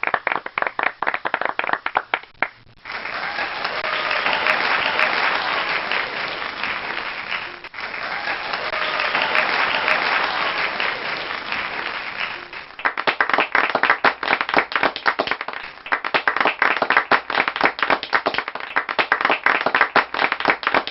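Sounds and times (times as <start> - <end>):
crowd applauding: 0.0 - 20.9.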